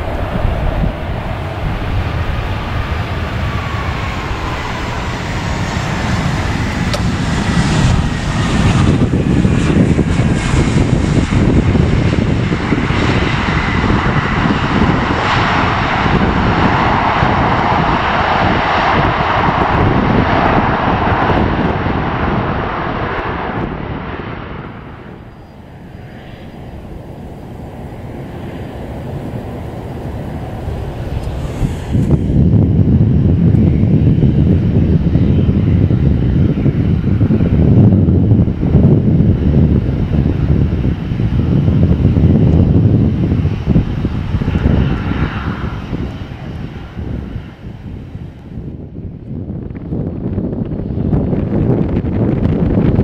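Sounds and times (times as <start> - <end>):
jet airliner landing: 0.0 - 53.0.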